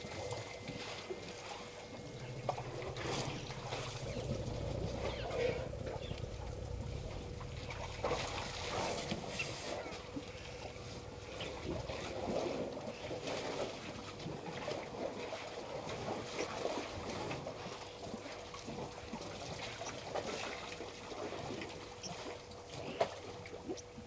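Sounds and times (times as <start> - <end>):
faint steady hum: 0.0 - 24.0
water sloshing and splashing: 0.0 - 24.0.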